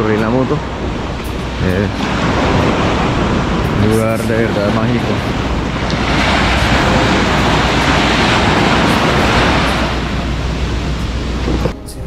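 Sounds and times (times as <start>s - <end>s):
sea waves breaking on beach: 0.0s - 12.0s.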